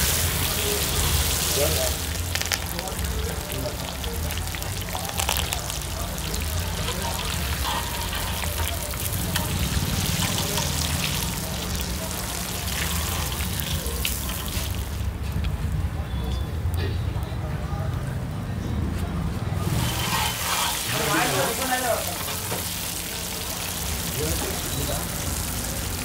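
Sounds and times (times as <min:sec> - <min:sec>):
food sizzling in hot oil: 0:00.0 - 0:15.2, 0:19.6 - 0:26.0
skimmer moving food in pan: 0:00.0 - 0:15.2, 0:19.6 - 0:26.0.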